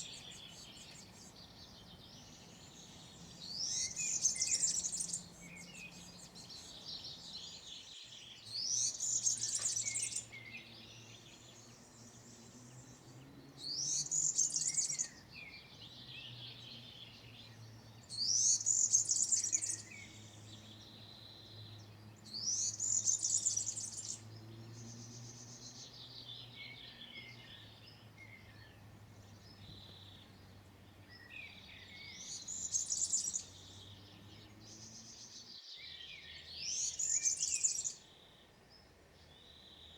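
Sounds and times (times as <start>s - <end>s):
bird singing jingling song: 0.0s - 39.9s
soft bird calls: 0.0s - 39.9s.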